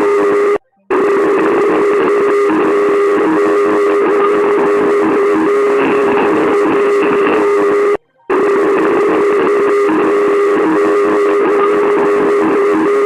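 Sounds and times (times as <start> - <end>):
harsh steady alarm tone: 0.0 - 13.0.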